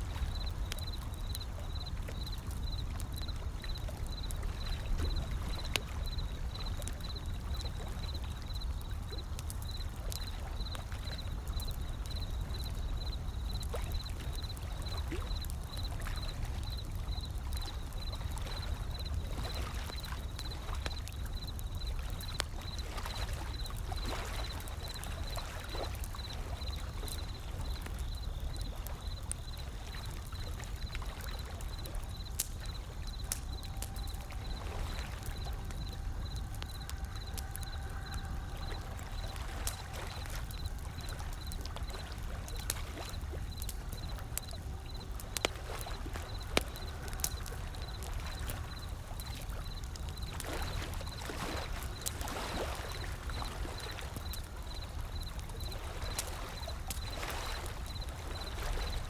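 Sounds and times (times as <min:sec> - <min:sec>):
gentle ocean waves: 0:00.0 - 0:59.0
wood fire crackling: 0:00.0 - 0:59.0.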